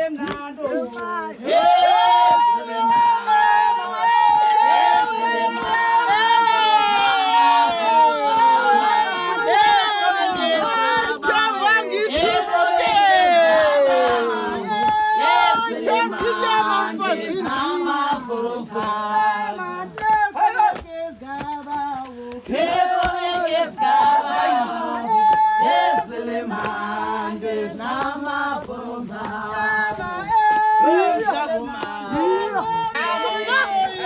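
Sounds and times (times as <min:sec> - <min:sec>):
women singing together: 0:00.0 - 0:34.0.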